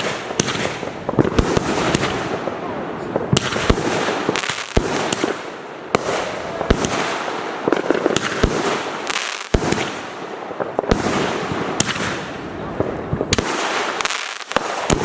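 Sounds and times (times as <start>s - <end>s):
firework bangs: 0.0s - 15.0s
fireworks crackling: 0.0s - 15.0s.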